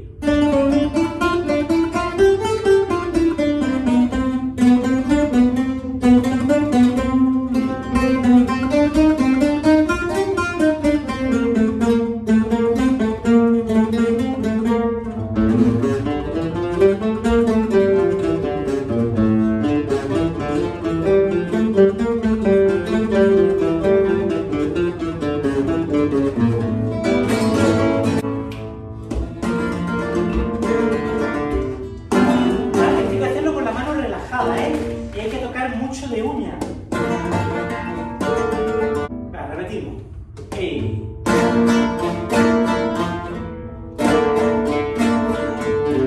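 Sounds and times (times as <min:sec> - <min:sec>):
flamenco guitars strumming: 0:00.0 - 0:46.0.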